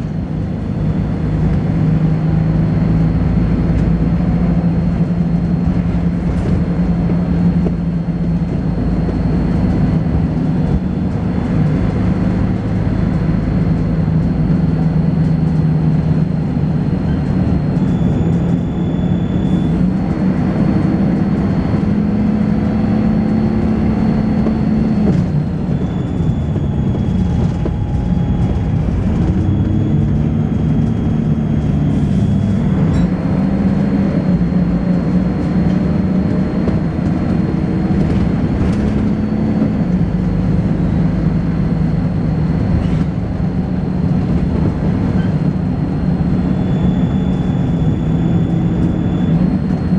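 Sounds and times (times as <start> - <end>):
bus body rattling: 0.0 - 49.9
bus diesel engine running: 0.0 - 49.9
high-pitched whine: 0.0 - 49.9.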